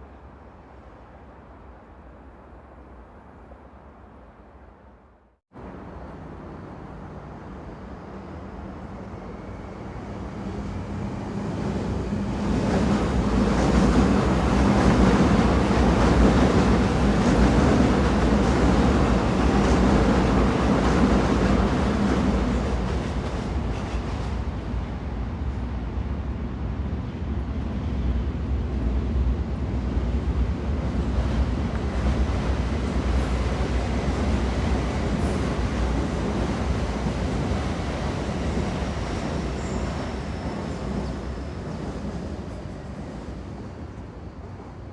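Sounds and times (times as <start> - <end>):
train rumbling: 3.8 - 44.9.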